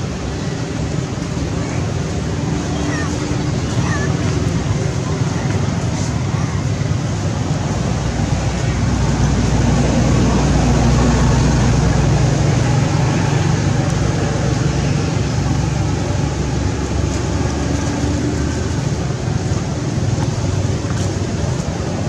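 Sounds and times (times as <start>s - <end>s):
noisy background: 0.0s - 22.0s
traffic rumble and hum: 0.0s - 22.0s.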